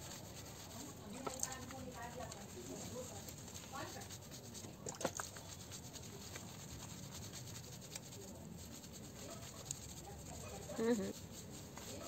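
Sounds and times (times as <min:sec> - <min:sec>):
soft wet rubbing: 0:00.0 - 0:12.0.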